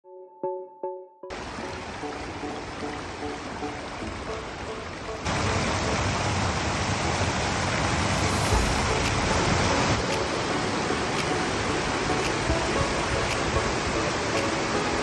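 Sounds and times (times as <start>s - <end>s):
river water rushing over rocks: 1.3s - 15.0s.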